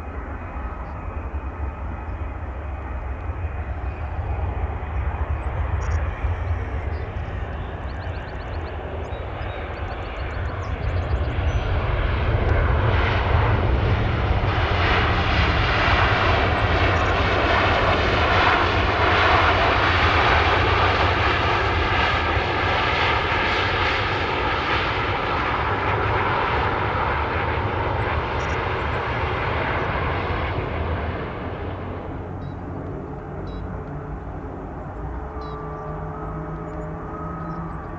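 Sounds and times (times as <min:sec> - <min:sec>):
jet engines: 0:00.0 - 0:37.9.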